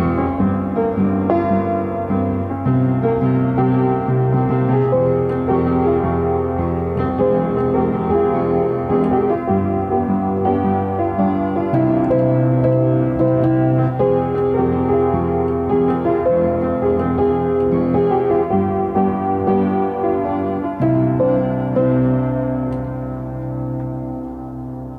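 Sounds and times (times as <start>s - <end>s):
solo piano: 0.0s - 24.9s.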